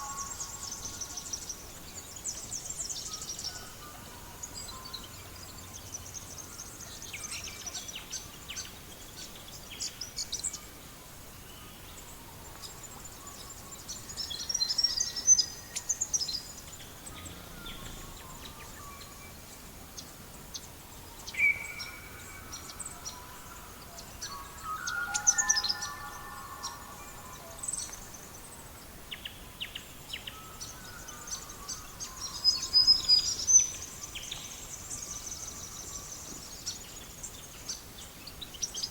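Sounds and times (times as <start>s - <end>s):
songbirds chirping and singing: 0.0s - 38.9s
steady low hiss: 0.0s - 38.9s.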